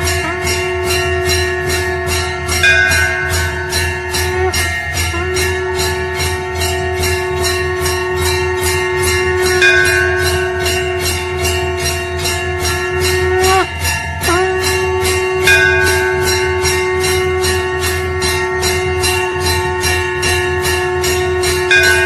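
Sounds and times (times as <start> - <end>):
bells ringing: 0.0 - 22.0
conch shell blown: 0.0 - 22.0.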